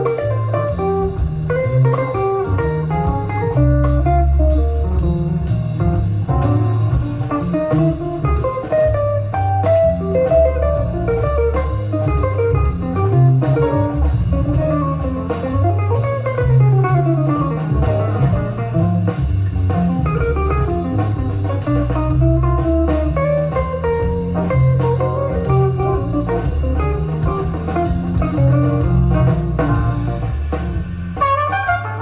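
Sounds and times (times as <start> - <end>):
bass guitar: 0.0 - 32.0
guitar: 0.0 - 32.0
steady beat: 0.0 - 32.0.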